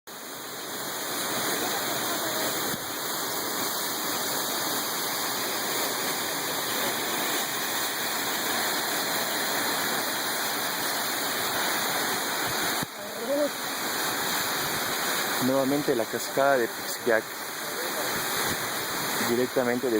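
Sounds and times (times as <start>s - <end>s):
waterfall rushing onto rock: 0.1s - 19.9s.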